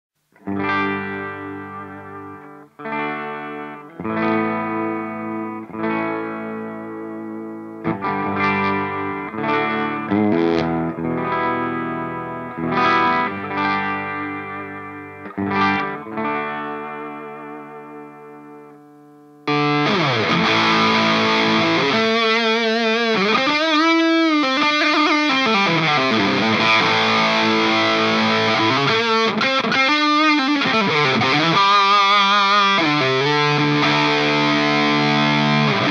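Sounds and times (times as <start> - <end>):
distorted electric guitar riff: 0.2 - 35.9
electric guitar chords ringing: 0.4 - 35.9.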